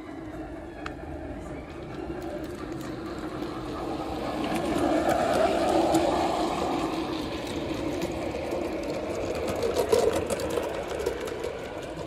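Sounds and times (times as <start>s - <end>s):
model train motor whirring: 1.8s - 12.0s.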